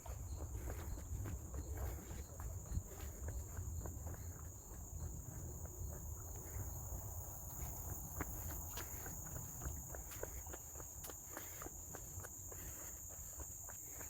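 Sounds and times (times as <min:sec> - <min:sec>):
faint pulsing chirp: 0:00.0 - 0:14.0
footsteps on forest trail: 0:00.0 - 0:14.0
insects droning: 0:00.0 - 0:14.0.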